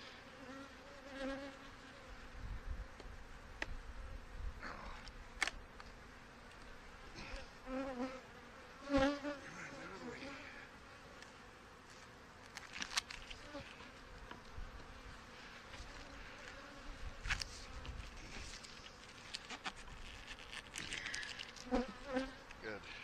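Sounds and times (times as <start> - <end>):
honeybees buzzing: 0.0 - 4.6, 5.2 - 23.0.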